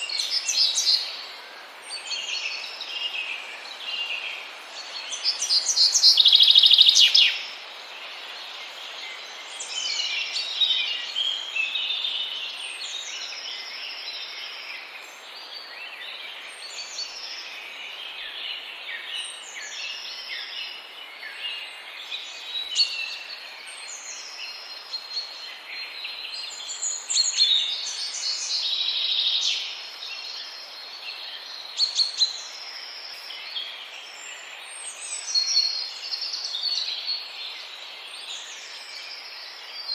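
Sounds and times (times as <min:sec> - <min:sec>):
background hiss: 0:00.0 - 0:39.9
small birds singing and chirping: 0:00.0 - 0:39.9.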